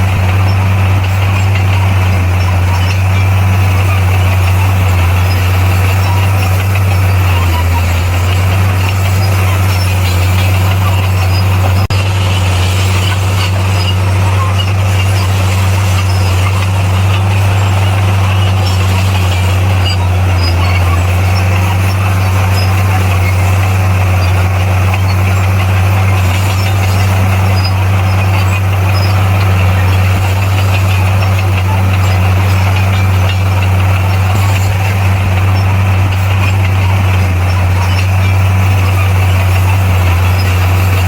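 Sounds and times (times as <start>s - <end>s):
bulldozer diesel engine running: 0.0s - 41.0s
mechanical clatter: 0.0s - 41.0s.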